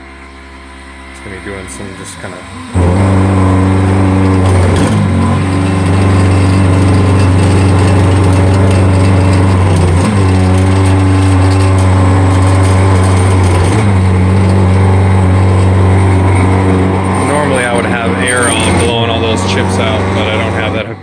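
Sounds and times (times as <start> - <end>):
cutter chatter and vibration: 0.0 - 21.0
milling machine cutting metal: 0.0 - 21.0.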